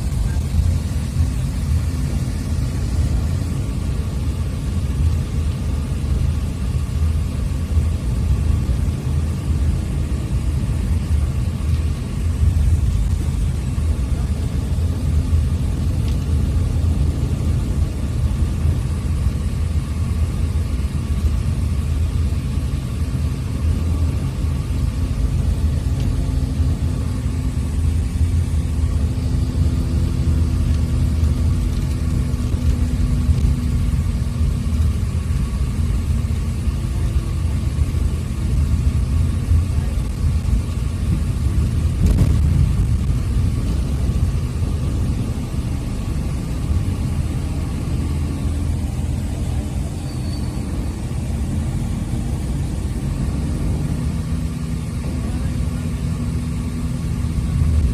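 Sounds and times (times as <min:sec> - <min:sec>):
bus engine rumble: 0:00.0 - 0:57.9
road noise: 0:00.0 - 0:57.9.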